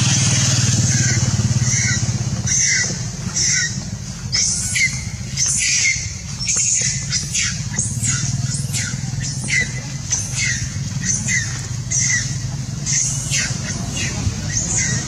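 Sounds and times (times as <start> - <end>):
macaque screaming: 0.0 - 15.0
steady low rumble: 0.0 - 15.0.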